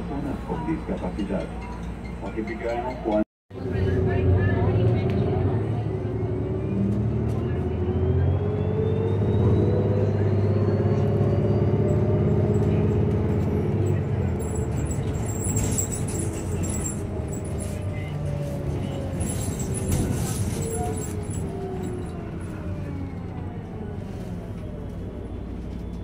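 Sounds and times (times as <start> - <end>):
bus drive whine: 0.0 - 26.0
bus engine drone: 0.0 - 26.0.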